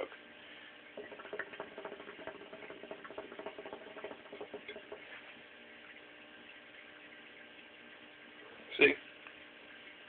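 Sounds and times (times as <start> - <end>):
hookah water bubbling: 0.7 - 10.0.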